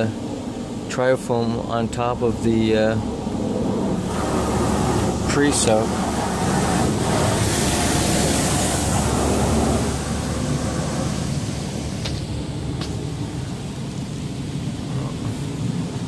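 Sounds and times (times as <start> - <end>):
spray jets hissing on car: 3.1 - 16.0.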